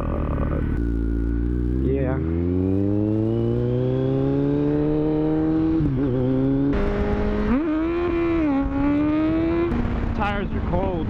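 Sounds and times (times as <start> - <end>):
motorcycle engine shifting gears: 0.0 - 10.6
wind and road noise: 0.0 - 11.0.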